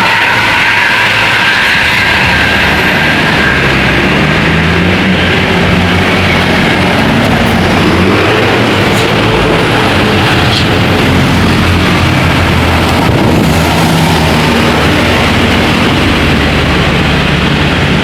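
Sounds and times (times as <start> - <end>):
bus engine passing: 0.0 - 18.0
road and tyre noise: 0.0 - 18.0.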